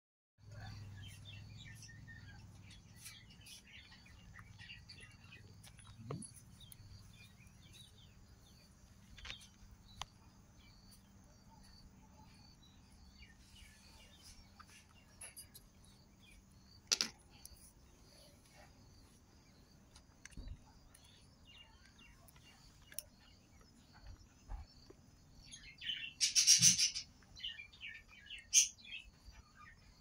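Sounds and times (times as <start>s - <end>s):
small birds chirping: 0.4s - 30.0s.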